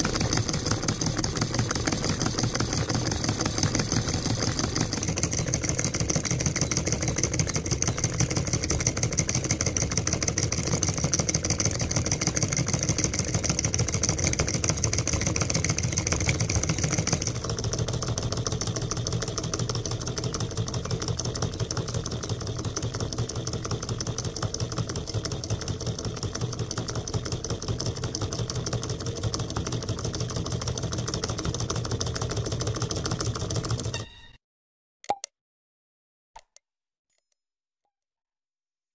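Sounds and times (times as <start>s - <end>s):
solenoid engine clattering: 0.0s - 34.0s.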